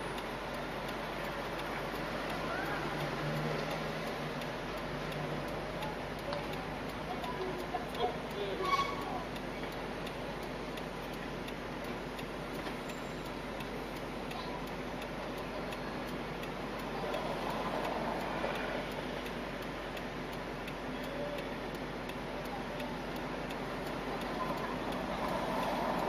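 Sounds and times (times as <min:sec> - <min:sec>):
light regular ticking: 0:00.0 - 0:26.0.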